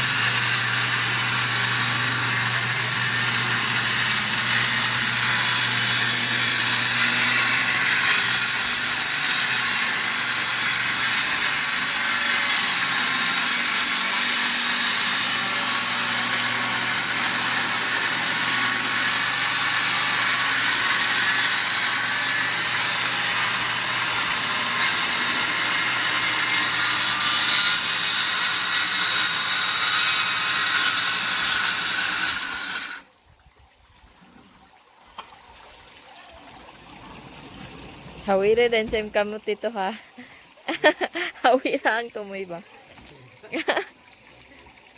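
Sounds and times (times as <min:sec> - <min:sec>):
circular saw cutting timber: 0:00.0 - 0:33.1, 0:37.4 - 0:43.9.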